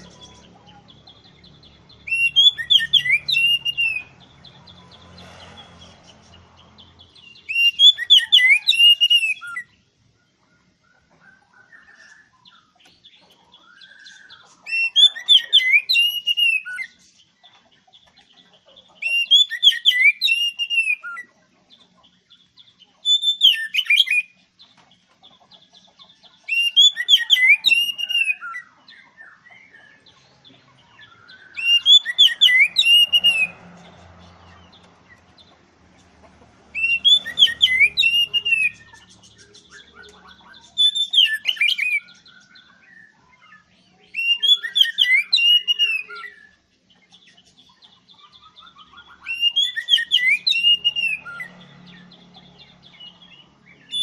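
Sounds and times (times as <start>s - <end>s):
magpie-robin singing: 0.0s - 5.2s, 6.1s - 9.8s, 11.6s - 24.6s, 25.2s - 35.6s, 36.7s - 54.0s.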